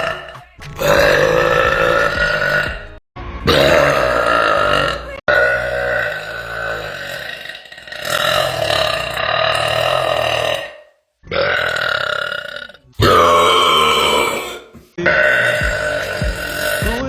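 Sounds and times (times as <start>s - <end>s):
woman belching loudly: 0.0s - 17.0s.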